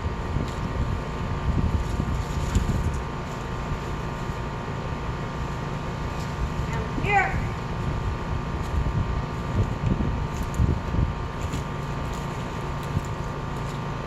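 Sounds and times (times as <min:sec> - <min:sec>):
wind buffeting microphone: 0:00.0 - 0:05.2, 0:05.9 - 0:13.5.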